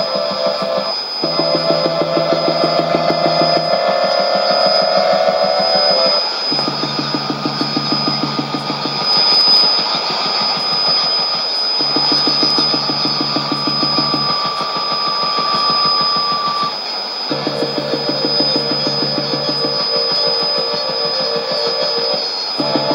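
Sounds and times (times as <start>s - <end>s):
low rasping radio buzz: 0.0s - 22.9s
radio band hiss: 0.0s - 22.9s
steady high whistle: 0.0s - 22.9s.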